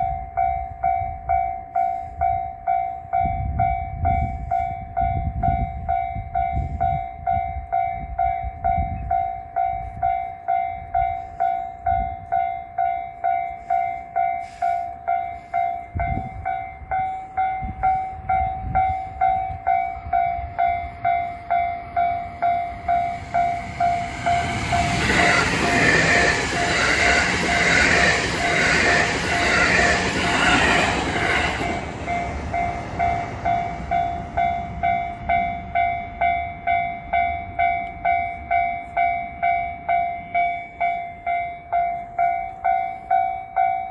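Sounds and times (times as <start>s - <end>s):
level crossing bell ringing: 0.0s - 43.9s
passing train: 0.0s - 43.9s.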